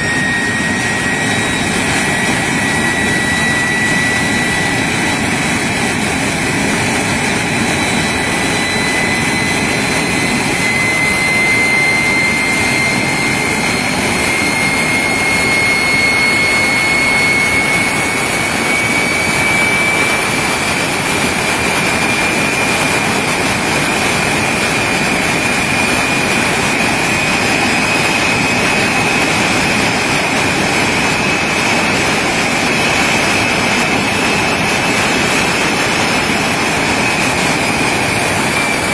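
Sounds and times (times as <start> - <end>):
jet engine roaring: 0.0 - 38.9
turbine whine rising in pitch: 0.0 - 38.9.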